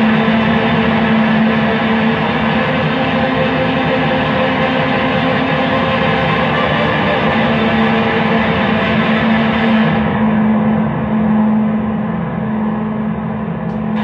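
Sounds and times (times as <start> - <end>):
electric guitar noise drone: 0.0 - 14.0
steady low tone: 0.0 - 14.0.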